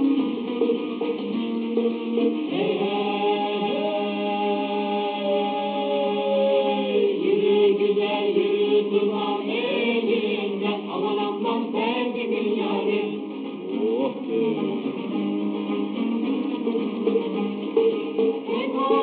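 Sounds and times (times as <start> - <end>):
mixed choir singing folk song: 0.0 - 19.0.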